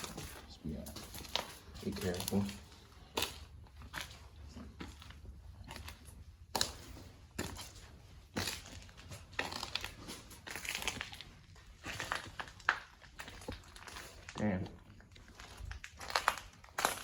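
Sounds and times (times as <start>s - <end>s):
footsteps crunching over debris: 0.0s - 17.0s.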